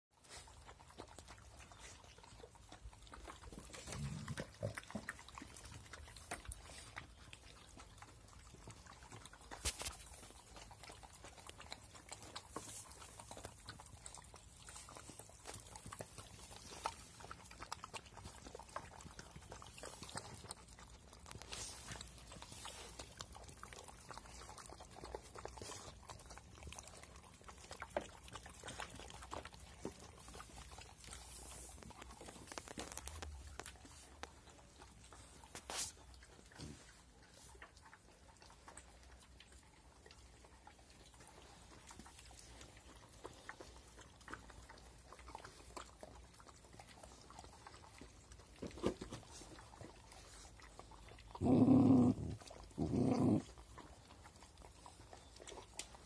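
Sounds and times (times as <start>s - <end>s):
puppies crunching dry kibble: 0.2s - 56.0s.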